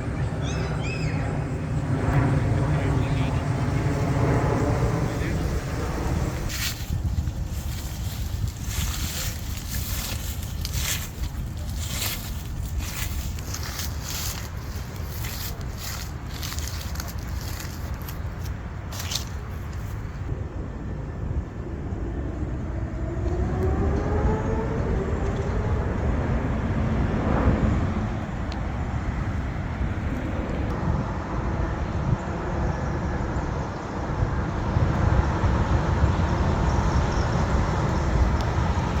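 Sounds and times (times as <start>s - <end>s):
low outdoor rumble: 0.0s - 39.0s
passing engine: 0.0s - 39.0s.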